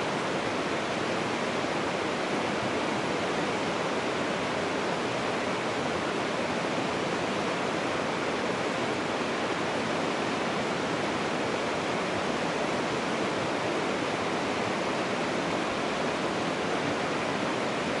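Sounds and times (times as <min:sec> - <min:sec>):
rushing stream water: 0:00.0 - 0:18.0.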